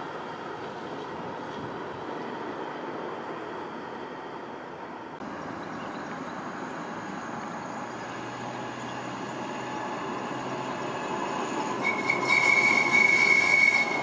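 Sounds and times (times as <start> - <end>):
tram running on rails: 0.0 - 14.0.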